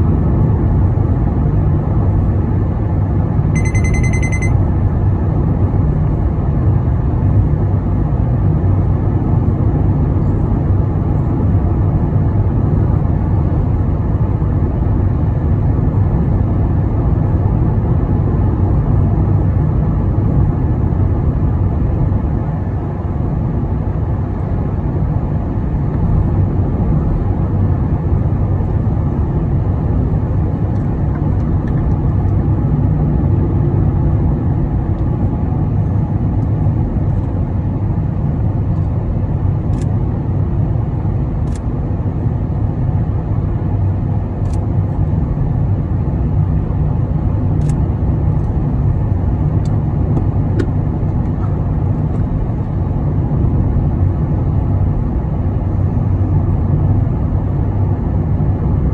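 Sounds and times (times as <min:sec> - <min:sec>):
car cabin road and engine rumble: 0:00.0 - 0:58.9.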